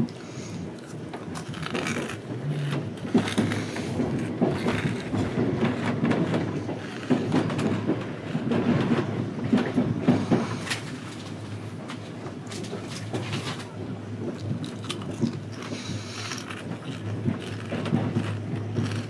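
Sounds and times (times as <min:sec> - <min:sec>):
train wheels rumbling on rails: 0:00.0 - 0:19.0
wheels clattering over rail joints: 0:01.2 - 0:19.0.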